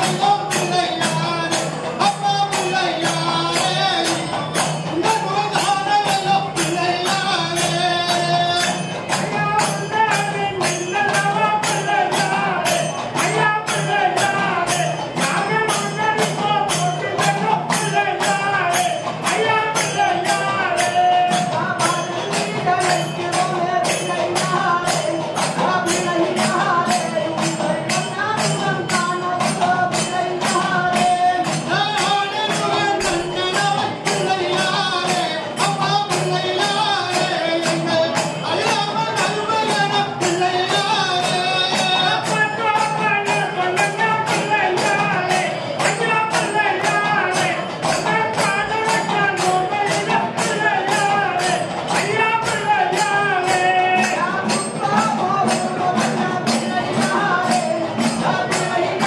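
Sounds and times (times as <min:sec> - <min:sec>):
hand percussion beat: 0:00.0 - 0:59.0
men singing a hymn: 0:00.0 - 0:59.0.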